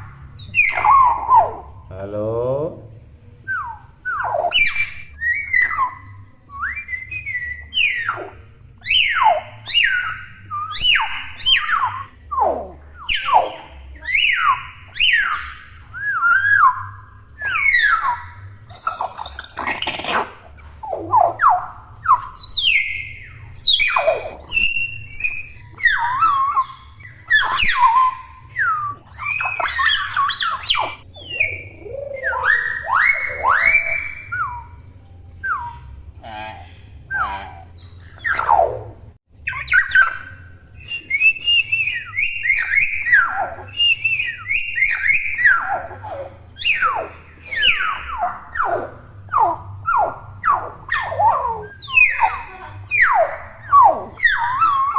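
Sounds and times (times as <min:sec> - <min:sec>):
myna whistles and squawks: 0:03.5 - 0:34.8, 0:39.5 - 0:54.9.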